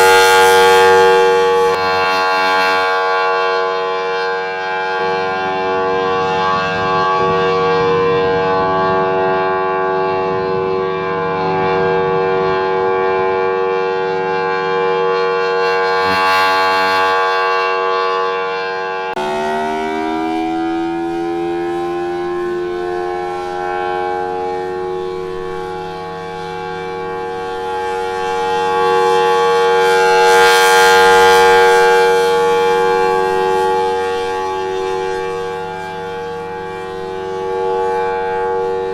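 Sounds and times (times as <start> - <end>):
air raid siren: 0.0 - 38.9.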